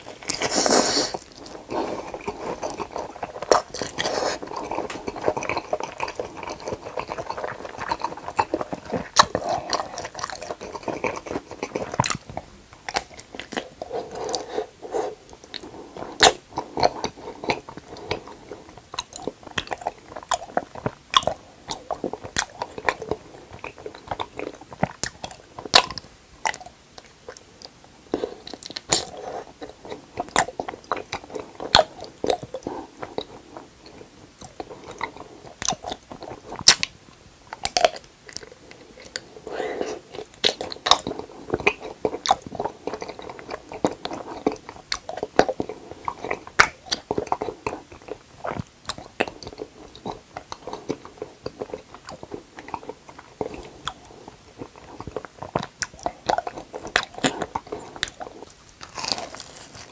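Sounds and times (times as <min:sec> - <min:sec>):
wet chewing: 0:00.0 - 0:59.9
mouth clicks and smacks: 0:00.1 - 0:14.5, 0:15.2 - 0:27.8, 0:28.4 - 0:59.9.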